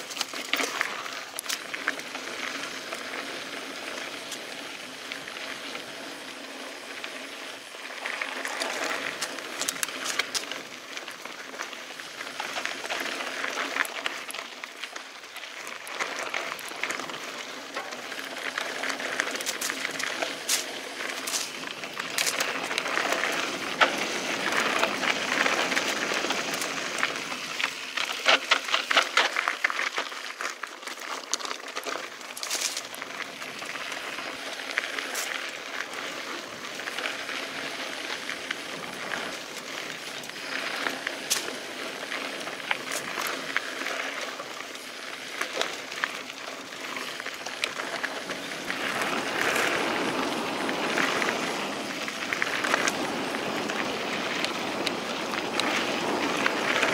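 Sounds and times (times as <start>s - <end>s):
bike rattling over bumps: 0.0s - 56.9s
bike tyre rumble on dirt: 0.0s - 56.9s.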